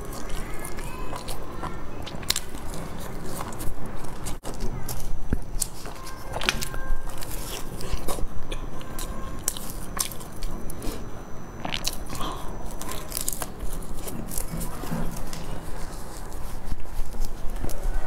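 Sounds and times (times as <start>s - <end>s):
chewing crunchy pastry: 0.0s - 18.0s.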